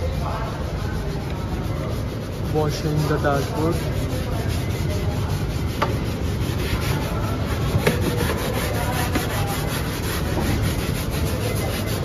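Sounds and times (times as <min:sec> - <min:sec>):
cloth scrubbing plastic panel: 0:02.2 - 0:12.0.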